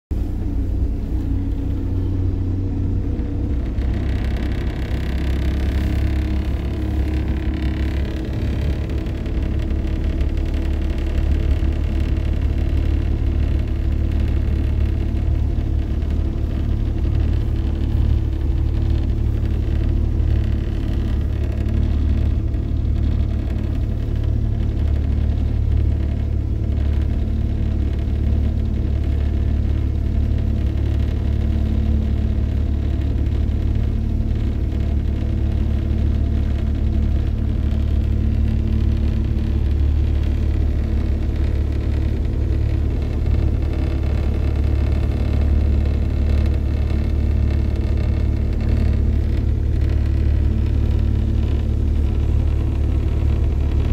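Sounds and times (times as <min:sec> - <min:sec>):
outboard motor droning: 0:00.1 - 0:53.9.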